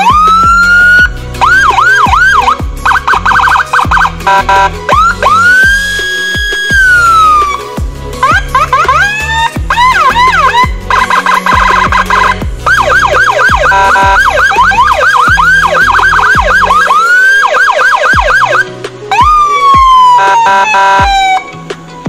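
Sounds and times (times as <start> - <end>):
electronic siren wailing: 0.0 - 21.5
background music with steady beat: 0.0 - 22.0.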